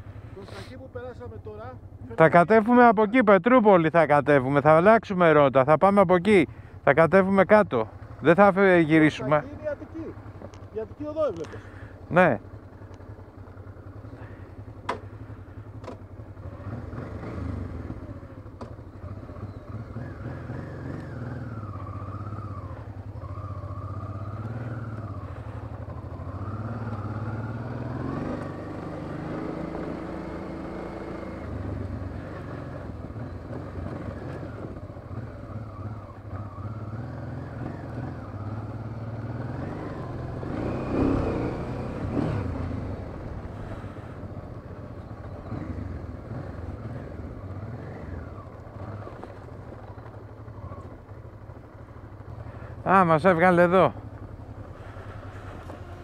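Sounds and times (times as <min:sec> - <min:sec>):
motorcycle engine running: 0:00.0 - 0:04.9, 0:06.0 - 0:56.0.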